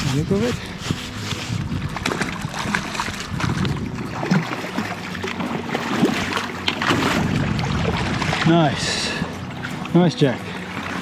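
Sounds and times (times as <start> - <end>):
river water rushing and splashing: 0.0 - 11.0
small water splashes: 1.8 - 11.0.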